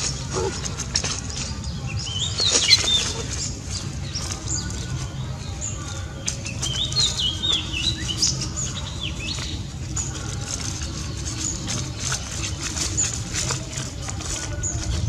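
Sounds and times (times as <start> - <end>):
birds chirping: 0.0 - 15.0
dry leaves rustling under paws: 0.0 - 15.0.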